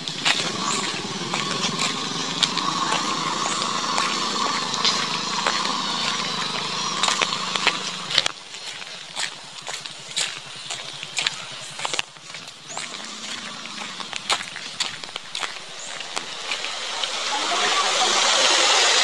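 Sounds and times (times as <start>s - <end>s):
sharp crackling clicks: 0.0s - 17.2s
small motorcycle engine running: 0.0s - 19.0s.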